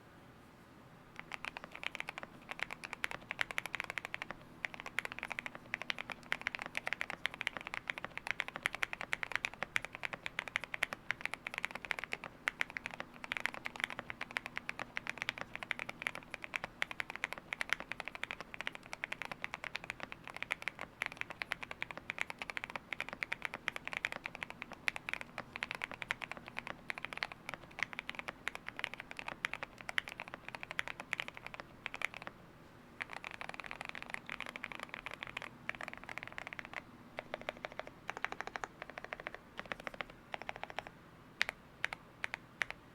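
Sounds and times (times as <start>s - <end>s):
mechanical keyboard typing: 1.2s - 32.3s, 33.0s - 42.8s.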